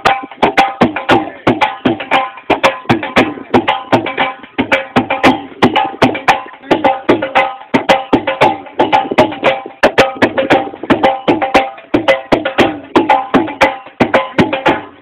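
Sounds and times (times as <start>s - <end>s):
hand drum beating fast: 0.0s - 15.0s.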